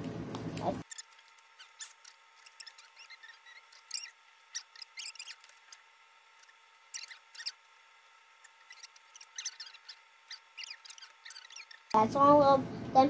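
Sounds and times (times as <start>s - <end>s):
cardboard crackles and squeaks: 0.8s - 7.7s, 8.4s - 12.0s.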